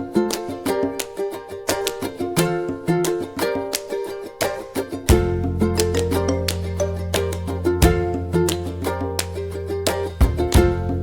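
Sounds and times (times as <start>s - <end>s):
upbeat plucked-string music: 0.0s - 11.0s.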